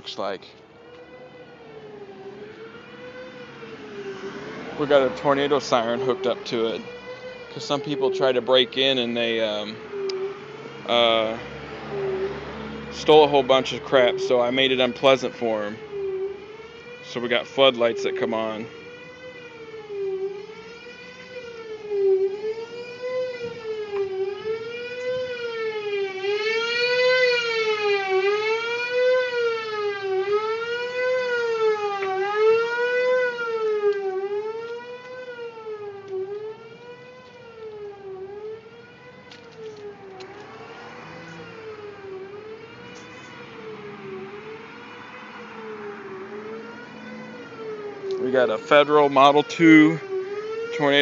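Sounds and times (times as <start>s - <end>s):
fire alarm siren wailing: 0.0s - 51.0s.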